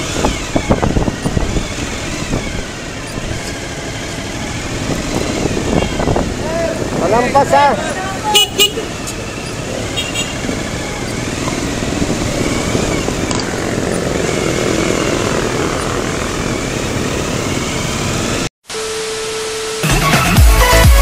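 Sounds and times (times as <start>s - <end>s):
motorcycle engine riding: 0.0s - 18.5s
wind and road noise: 0.0s - 18.5s.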